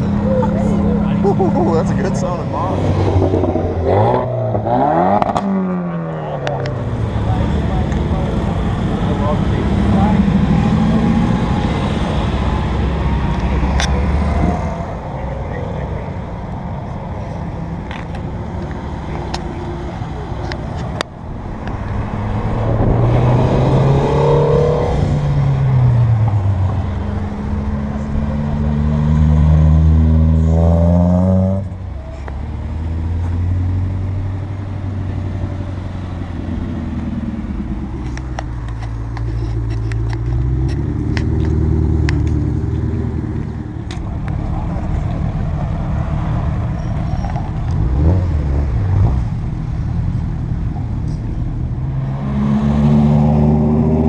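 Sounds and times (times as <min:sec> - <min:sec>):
sports car engine revving: 0:00.0 - 0:16.0, 0:21.6 - 0:54.0.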